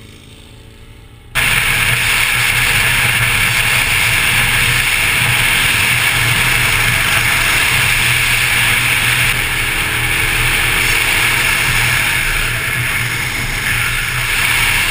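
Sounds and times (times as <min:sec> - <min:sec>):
motorcycle engine running: 0:00.0 - 0:14.9
wind rush over microphone: 0:01.4 - 0:14.9.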